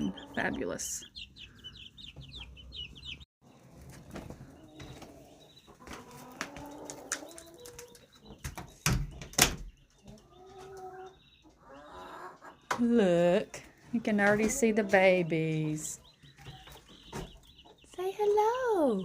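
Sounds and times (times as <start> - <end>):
hen clucking: 0.0 - 8.6, 9.8 - 18.5.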